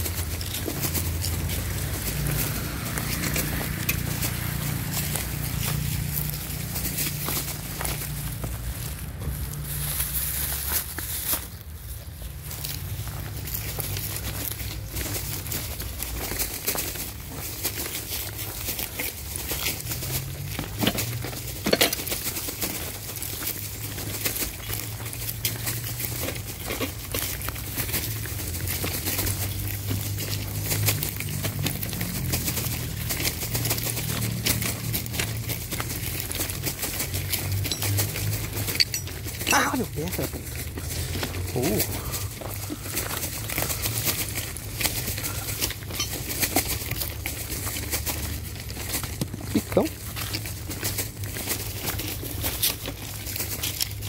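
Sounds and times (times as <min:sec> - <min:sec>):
footsteps crunching on gravel: 0:00.0 - 0:54.0.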